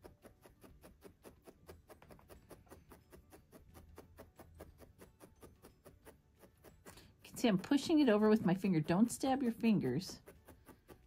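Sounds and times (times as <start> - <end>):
felting needle soft ticks: 0.0 - 11.0.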